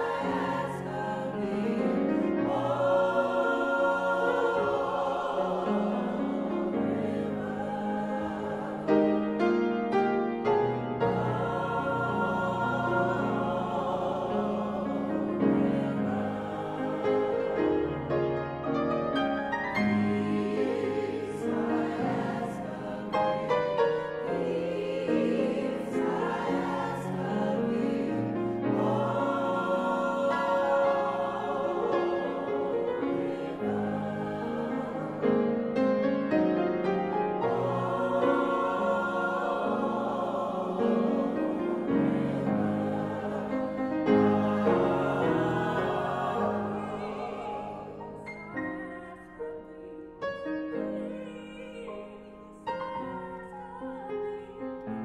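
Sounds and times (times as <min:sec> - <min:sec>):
mixed chorus singing gospel song: 0:00.0 - 0:18.4, 0:19.2 - 0:55.0
piano accompaniment: 0:00.0 - 0:55.0.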